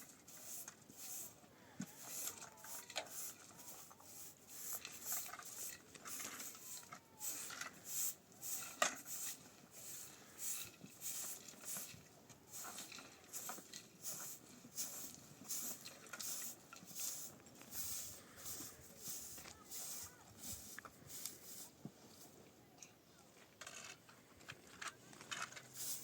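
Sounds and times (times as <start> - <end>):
short hissing strokes: 0.0 - 21.8, 25.7 - 26.0.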